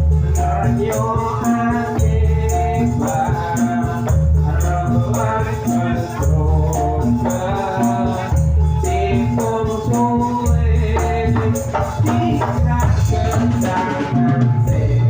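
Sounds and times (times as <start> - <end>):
heavy bass notes: 0.0 - 15.0
pitched percussion melody: 0.0 - 15.0
rattling beat: 0.0 - 15.0.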